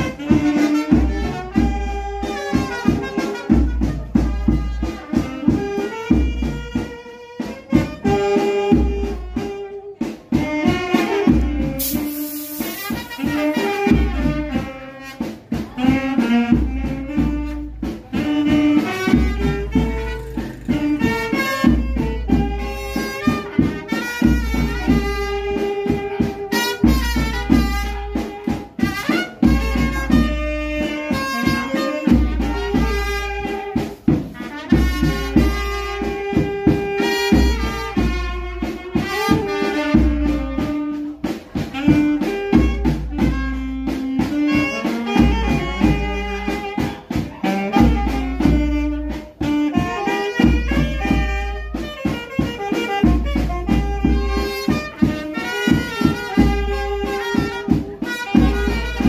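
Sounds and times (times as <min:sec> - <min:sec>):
instrumental music with steady beat: 0:00.0 - 0:59.0.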